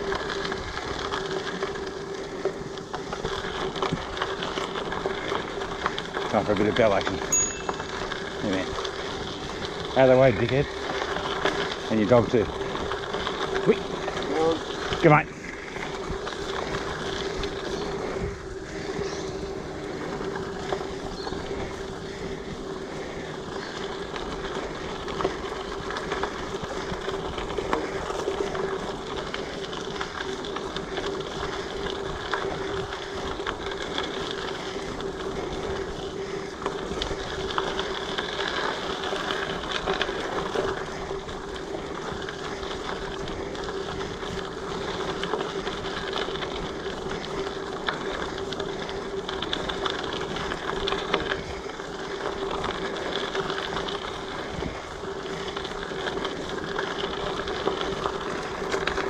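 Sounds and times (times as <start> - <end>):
bike rattling over bumps: 0.0 - 59.0
bike tyres rumbling on dirt: 0.0 - 59.0.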